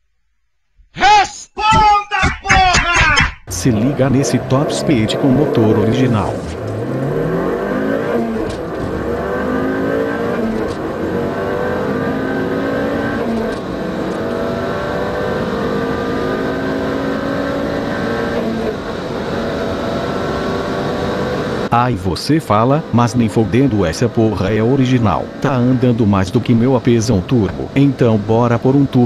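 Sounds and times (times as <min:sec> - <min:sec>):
car engine accelerating: 0:03.5 - 0:29.0.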